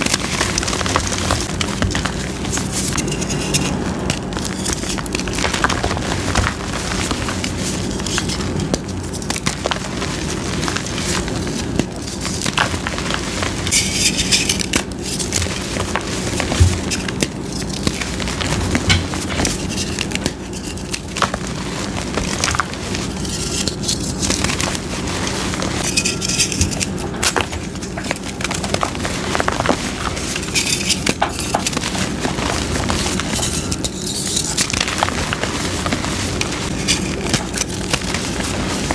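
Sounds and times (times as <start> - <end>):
chalk crushed and crumbled by hand: 0.0 - 38.9
powdery sifting: 0.0 - 38.9.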